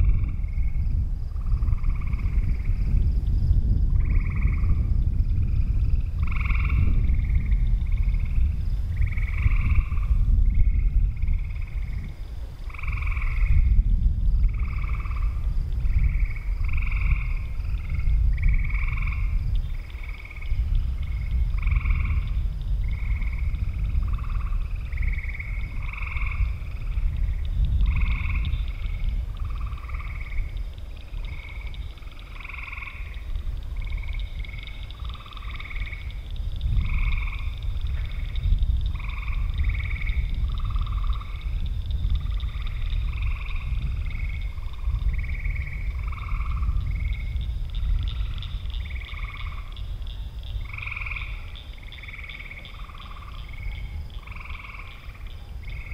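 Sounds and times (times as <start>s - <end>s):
frogs calling: 0.0s - 55.9s
steady low rumble: 0.0s - 55.9s.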